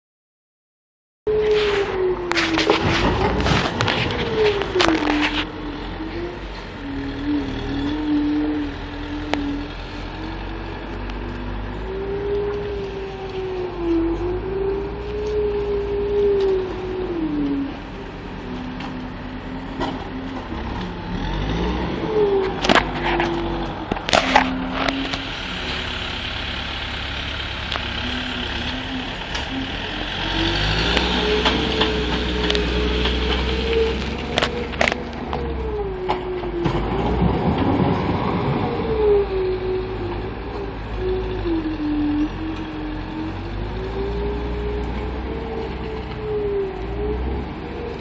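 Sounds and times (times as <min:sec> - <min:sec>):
diesel engine revving under load: 0:01.3 - 0:48.0.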